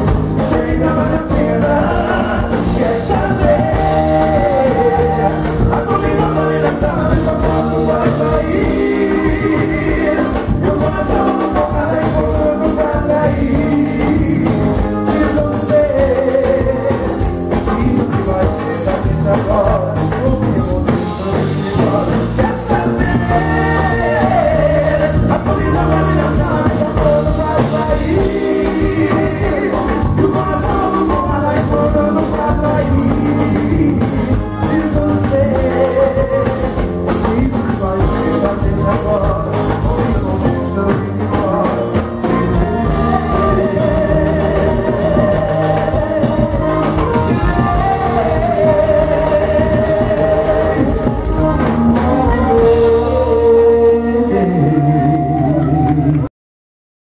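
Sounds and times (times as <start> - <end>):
accordion: 0.0 - 56.3
backing vocals: 0.0 - 56.3
live band playing: 0.0 - 56.3
man singing lead vocals: 0.0 - 56.3.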